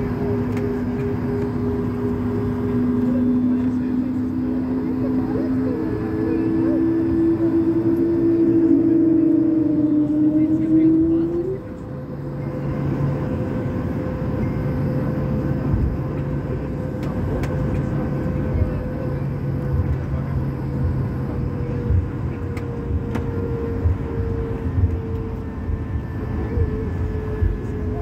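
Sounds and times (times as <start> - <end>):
humming tone: 0.0 - 28.0
vehicle interior rumble: 0.0 - 28.0.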